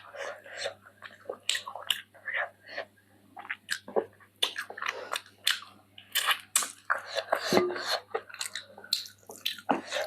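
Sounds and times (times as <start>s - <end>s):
wet chewing and smacking: 0.0s - 2.8s, 3.4s - 10.0s.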